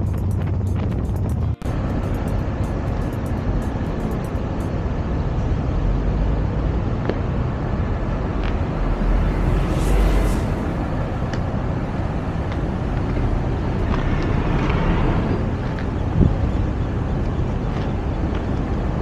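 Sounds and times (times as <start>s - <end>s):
vehicle rumble: 0.0s - 19.0s
wind on microphone: 0.0s - 19.0s.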